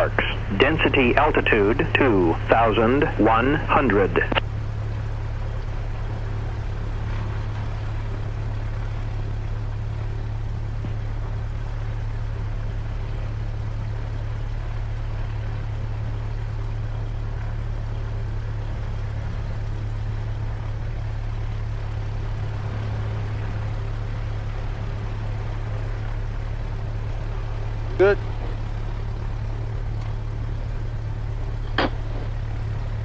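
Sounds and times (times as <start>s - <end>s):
propeller plane engine droning: 0.0s - 33.0s.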